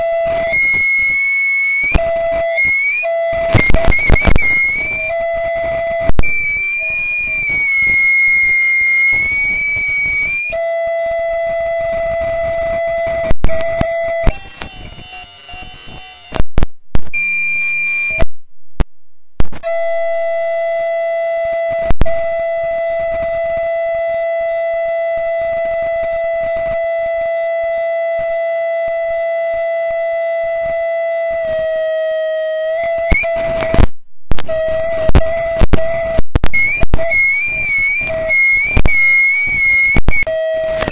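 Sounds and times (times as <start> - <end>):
shrill audio feedback tone: 0.0 - 18.3, 19.5 - 40.9.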